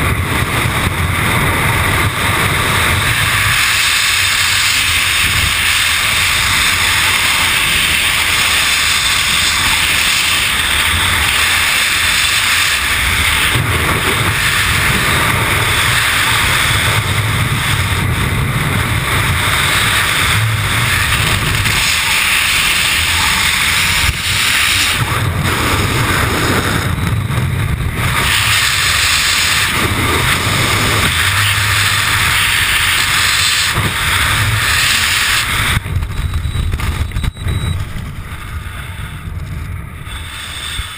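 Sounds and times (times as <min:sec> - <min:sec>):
low buffeting rumble: 0:00.0 - 0:40.9
wind rushing over microphone: 0:00.0 - 0:40.9.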